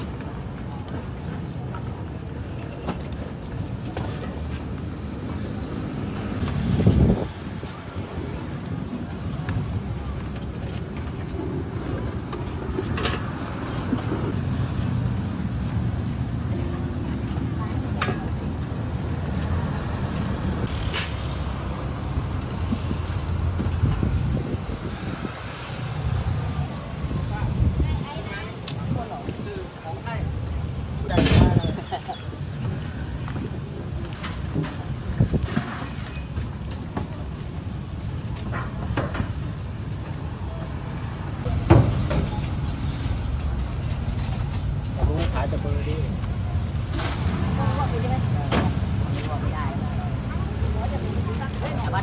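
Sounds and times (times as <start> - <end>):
low rumble of street traffic: 0.0 - 52.0.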